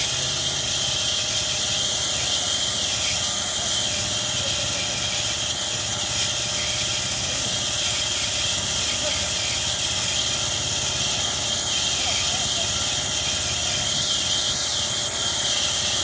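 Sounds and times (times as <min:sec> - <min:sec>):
wood-sawing machine whine: 0:00.0 - 0:16.0.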